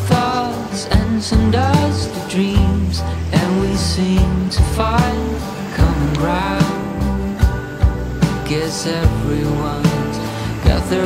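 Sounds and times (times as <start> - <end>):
pop song with singing: 0.0 - 11.0.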